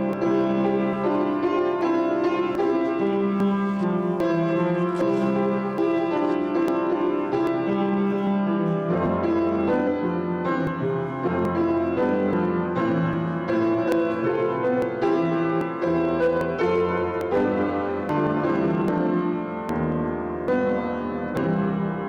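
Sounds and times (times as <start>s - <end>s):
solo piano piece: 0.0s - 22.0s.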